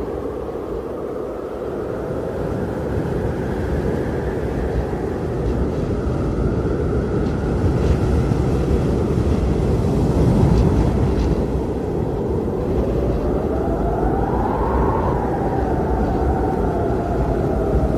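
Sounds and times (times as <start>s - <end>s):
strong blizzard wind: 0.0s - 17.9s.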